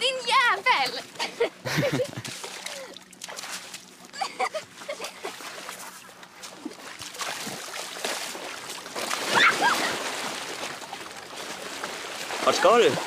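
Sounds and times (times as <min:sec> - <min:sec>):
people splashing in water: 0:01.6 - 0:13.0.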